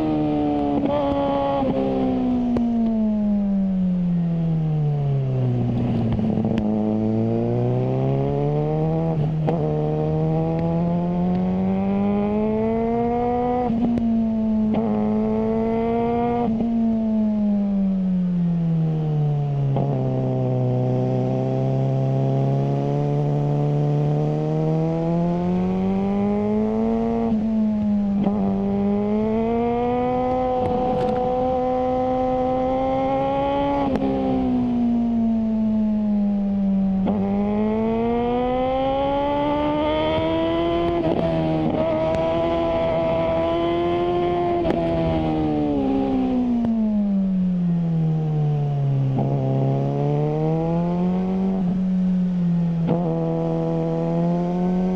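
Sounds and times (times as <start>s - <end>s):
motorcycle engine revving: 0.0s - 3.6s, 5.0s - 17.8s, 19.4s - 54.9s.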